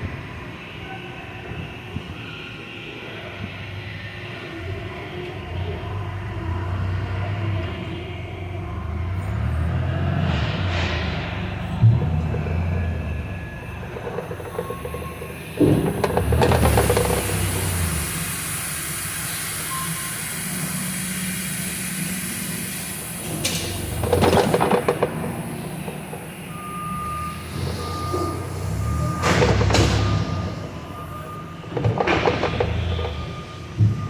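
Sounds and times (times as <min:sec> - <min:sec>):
vehicle reversing beeper: 0:00.0 - 0:34.0.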